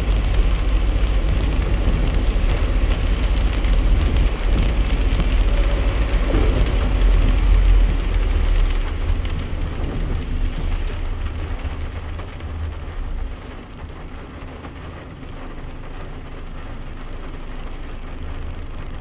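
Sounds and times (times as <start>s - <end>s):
rain on truck windshield and roof: 0.0s - 19.0s
truck rumbling on wet road: 0.0s - 19.0s.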